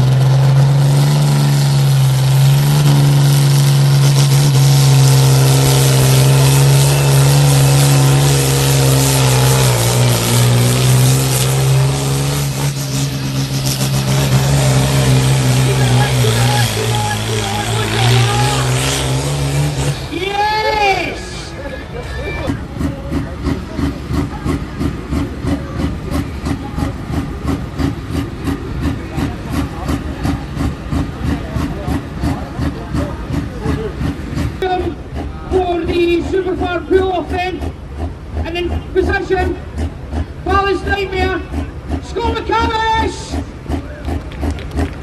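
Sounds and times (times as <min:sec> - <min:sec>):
tractor engine running flat out: 0:00.0 - 0:45.0.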